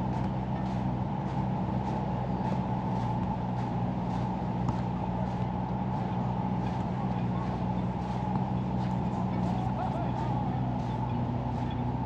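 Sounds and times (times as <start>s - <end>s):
footsteps walking: 0.0s - 12.0s
low mechanical engine hum: 0.0s - 12.0s.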